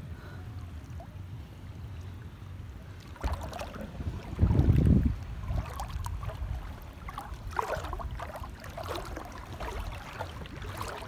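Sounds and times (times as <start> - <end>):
water lapping and splashing: 0.0 - 11.0
wind rumble on microphone: 0.0 - 11.0.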